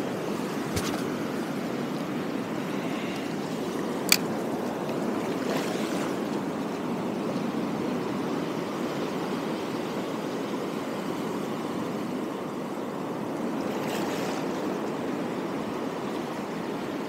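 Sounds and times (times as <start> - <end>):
waves washing over rocks: 0.0 - 17.0.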